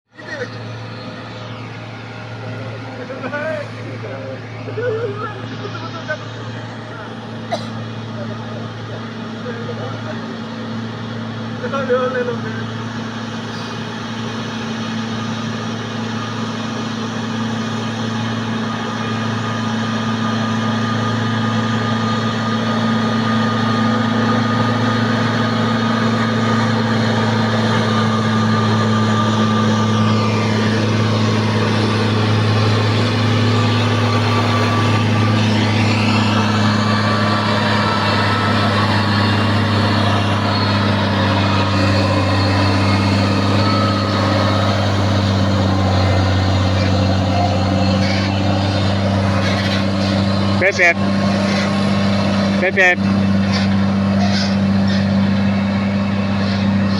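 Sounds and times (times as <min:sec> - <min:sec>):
truck engine running: 0:00.0 - 0:56.9.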